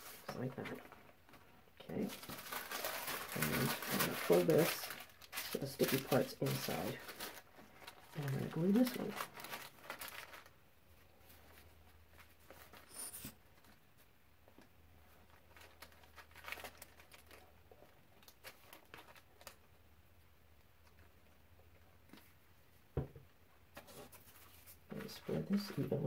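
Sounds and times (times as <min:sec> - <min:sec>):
wax paper rustle: 0:00.0 - 0:14.0, 0:15.1 - 0:19.7, 0:23.8 - 0:26.0.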